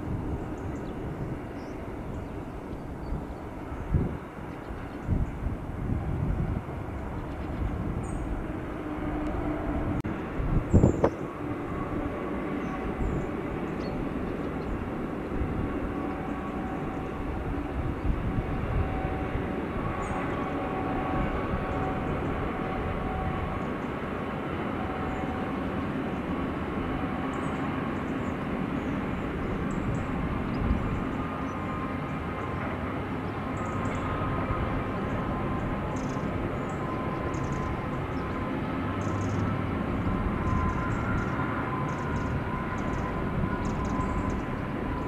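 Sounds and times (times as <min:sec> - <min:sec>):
faint locomotive whine: 0:00.0 - 0:45.0.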